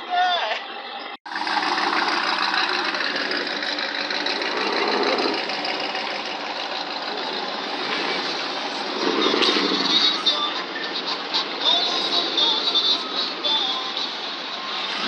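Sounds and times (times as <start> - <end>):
truck engine clattering: 0.6 - 15.0.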